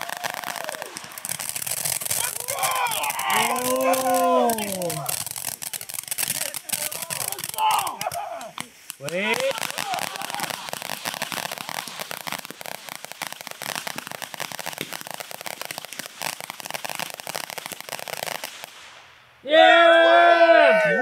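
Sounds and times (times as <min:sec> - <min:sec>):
fireworks crackling: 0:00.0 - 0:19.6.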